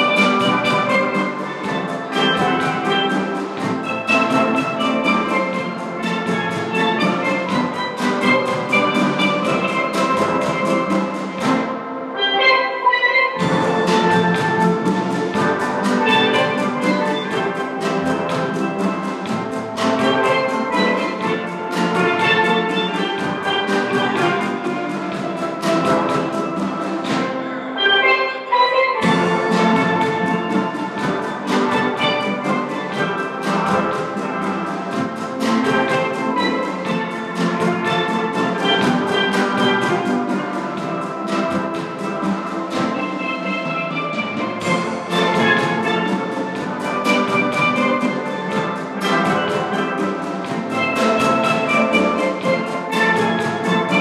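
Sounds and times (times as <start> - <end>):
steel drum band playing: 0.0 - 54.0.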